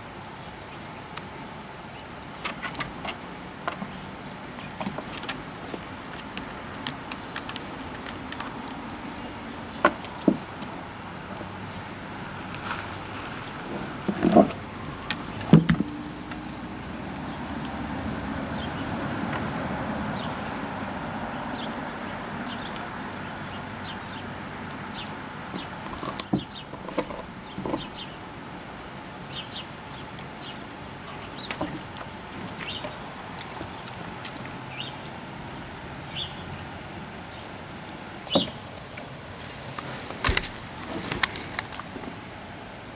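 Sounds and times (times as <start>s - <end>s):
birds chirping: 0.0s - 42.6s.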